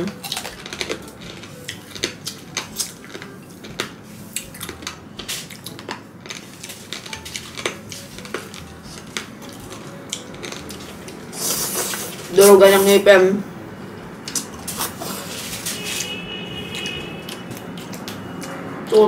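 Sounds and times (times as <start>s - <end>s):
crunching fried pork rind: 0.0s - 12.3s, 14.2s - 19.0s.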